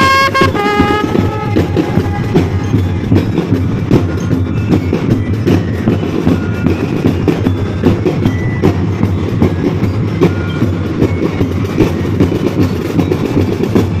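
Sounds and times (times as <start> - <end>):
marching drumline playing: 0.0 - 14.0.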